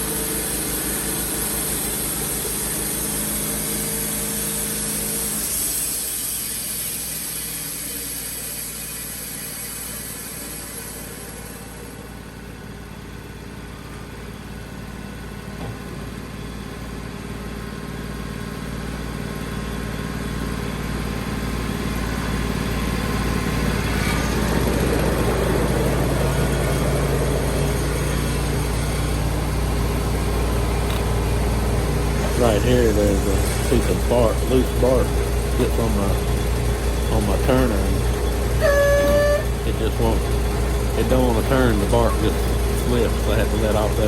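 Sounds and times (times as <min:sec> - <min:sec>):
sawmill engine running: 0:00.0 - 0:44.0.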